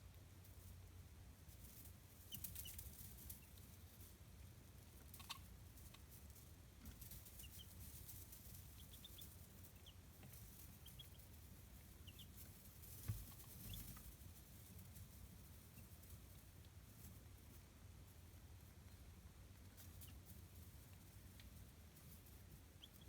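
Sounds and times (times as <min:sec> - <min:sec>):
chicks peeping: 0:01.7 - 0:04.0, 0:04.8 - 0:06.2, 0:06.9 - 0:23.0.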